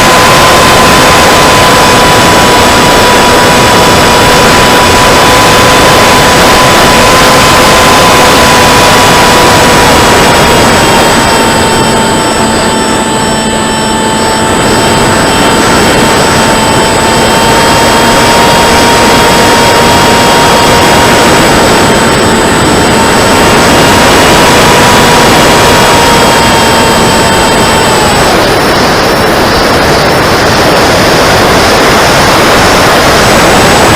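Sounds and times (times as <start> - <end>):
electric motor whine: 0.0 - 33.9
wind rushing over microphone: 0.0 - 33.9.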